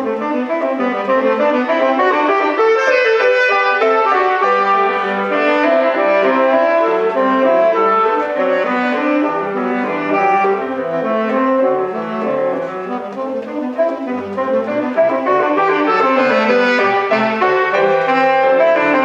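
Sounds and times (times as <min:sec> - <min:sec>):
piano accompaniment: 0:00.0 - 0:19.0
tenor saxophone playing: 0:00.0 - 0:19.0.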